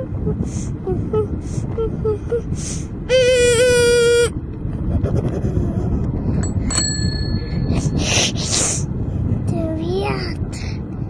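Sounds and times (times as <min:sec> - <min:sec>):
bicycle rolling rumble: 0:00.0 - 0:11.0.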